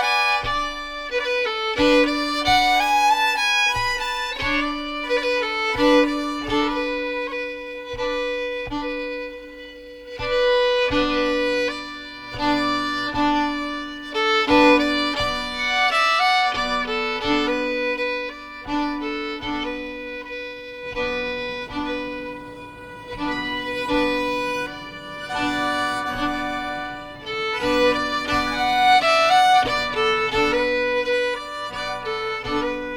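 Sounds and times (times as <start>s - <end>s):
fiddle melody: 0.0s - 32.9s.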